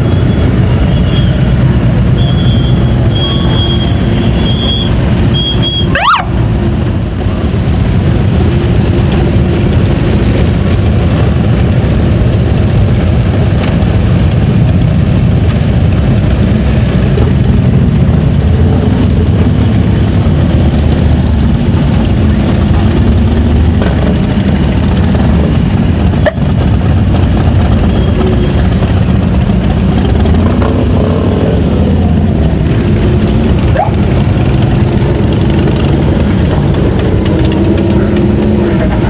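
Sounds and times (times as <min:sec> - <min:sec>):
vehicle engines running loudly: 0:00.0 - 0:39.0.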